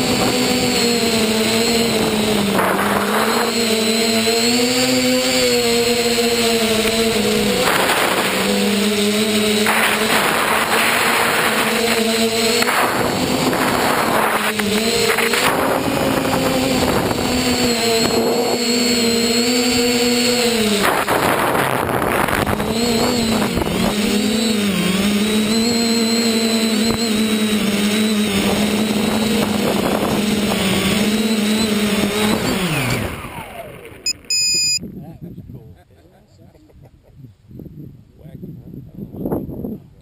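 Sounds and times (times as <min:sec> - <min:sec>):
electric motor and propeller whine: 0:00.0 - 0:34.8.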